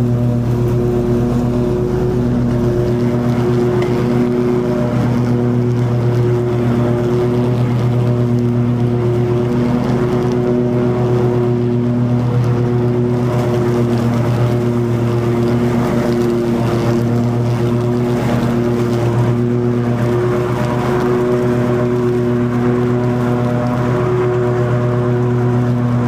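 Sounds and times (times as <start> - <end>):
lawn mower engine drone: 0.0 - 26.0.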